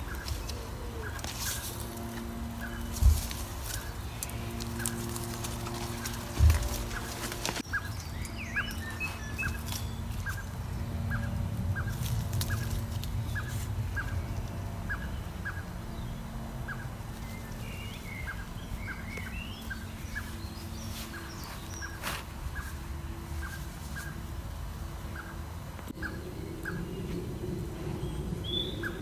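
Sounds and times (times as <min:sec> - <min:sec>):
low steady rumble: 0:00.0 - 0:29.0
warbled bird song: 0:00.0 - 0:29.0.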